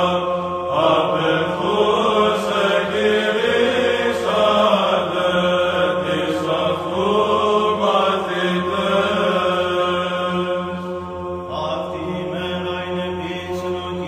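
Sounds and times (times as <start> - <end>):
held vocal drone: 0.0 - 14.0
men chanting melody: 0.0 - 14.0.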